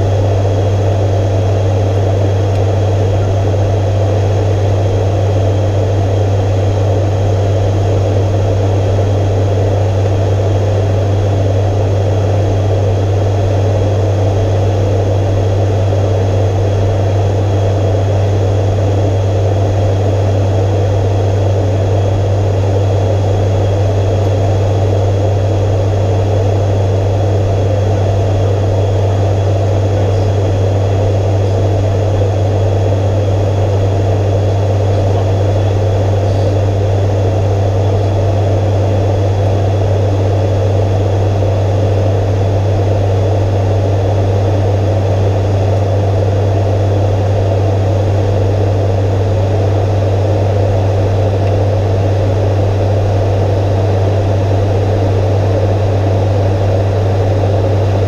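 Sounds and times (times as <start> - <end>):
constant rushing drone: 0.0 - 58.0
low propeller hum: 0.0 - 58.0.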